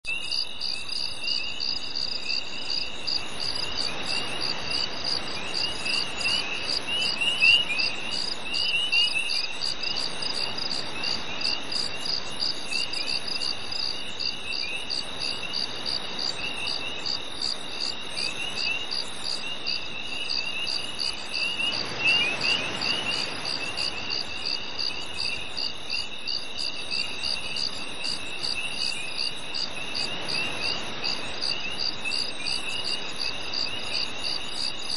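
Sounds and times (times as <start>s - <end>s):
continuous high insect trill: 0.0s - 34.9s
crickets chirping: 0.1s - 34.9s.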